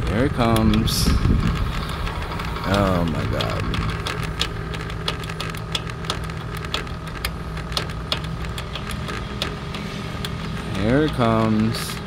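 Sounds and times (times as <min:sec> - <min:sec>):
chain drive clicking: 0:00.0 - 0:12.0
gate opener motor humming: 0:00.0 - 0:12.0.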